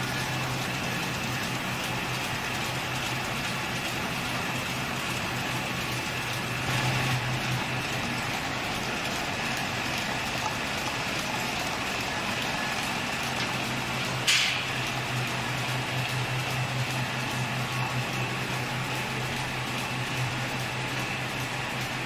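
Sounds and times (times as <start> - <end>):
labeling machine humming and whirring: 0.0 - 22.0.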